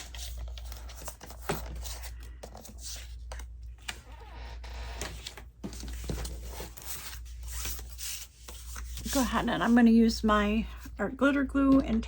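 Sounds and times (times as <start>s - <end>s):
paper rustling: 0.0s - 10.9s.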